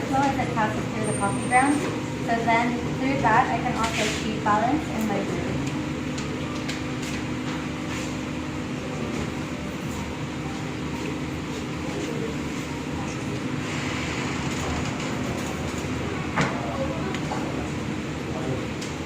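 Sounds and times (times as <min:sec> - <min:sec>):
cafe room hum: 0:00.0 - 0:19.0.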